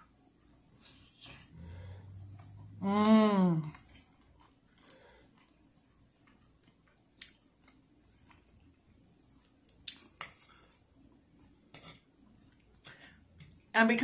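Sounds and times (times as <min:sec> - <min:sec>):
person chewing food: 0:00.3 - 0:02.8, 0:03.6 - 0:13.7.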